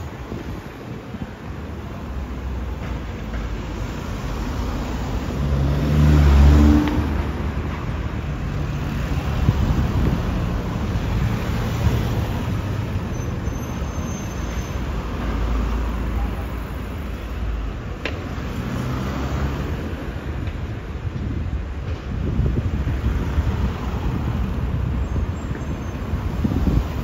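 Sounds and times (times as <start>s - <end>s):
cars driving past: 0.0s - 27.0s
steady traffic rumble: 0.0s - 27.0s.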